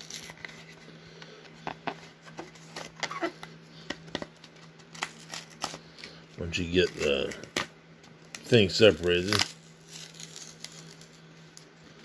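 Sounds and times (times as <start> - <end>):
trading cards rustling: 0.0 - 12.0.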